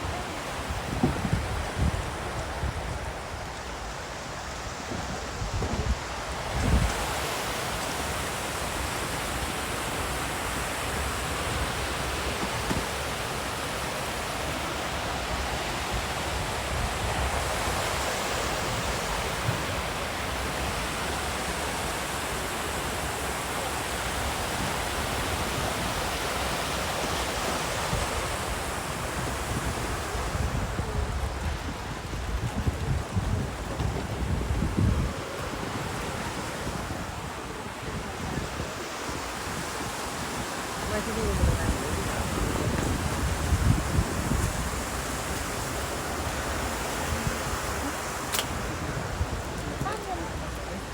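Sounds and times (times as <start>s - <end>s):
wind rumbling on microphone: 0.0s - 50.9s.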